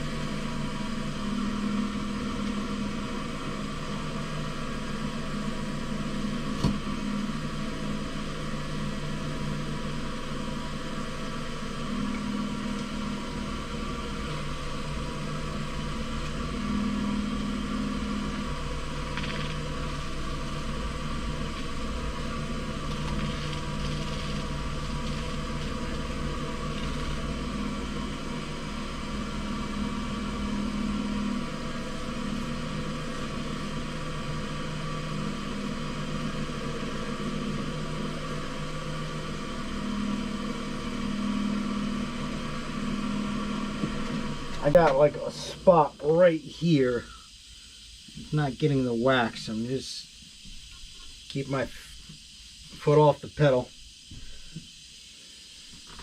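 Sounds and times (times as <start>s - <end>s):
wood lathe motor humming: 0.0s - 49.7s.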